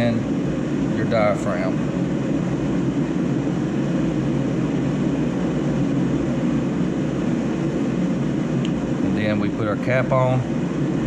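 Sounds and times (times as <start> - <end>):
low background drone: 0.0 - 11.0.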